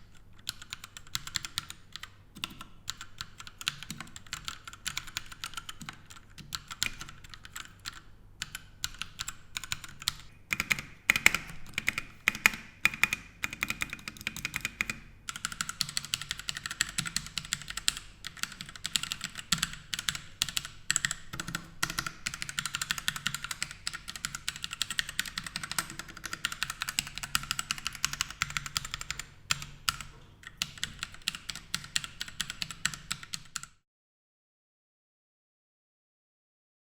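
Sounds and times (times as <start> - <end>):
mechanical keyboard typing: 0.0 - 33.8.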